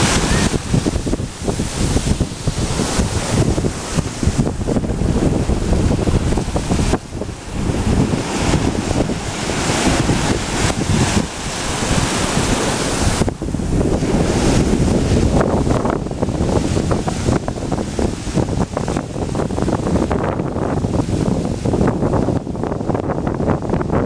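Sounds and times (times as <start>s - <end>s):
sea surf breaking: 0.0s - 23.9s
wind buffeting microphone: 0.0s - 24.0s.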